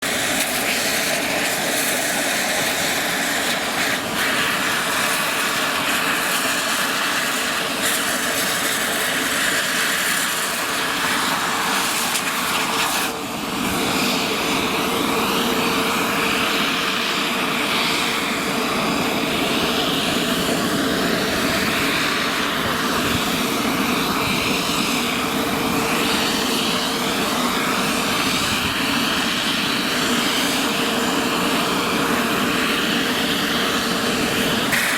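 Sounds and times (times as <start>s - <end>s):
helicopter turbine and rotor whine: 0.0s - 34.9s.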